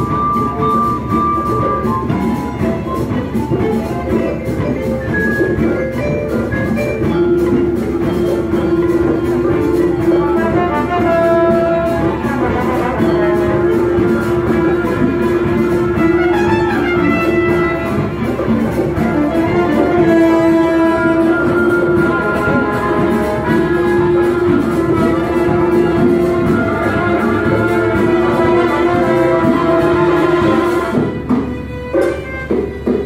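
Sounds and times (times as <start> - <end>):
orchestra playing jazz-fusion: 0.0 - 33.0.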